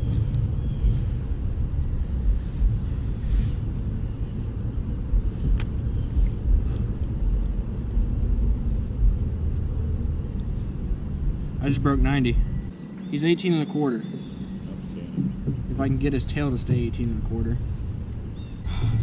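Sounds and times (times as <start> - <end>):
wind buffeting microphone: 0.0 - 12.7, 14.0 - 19.0.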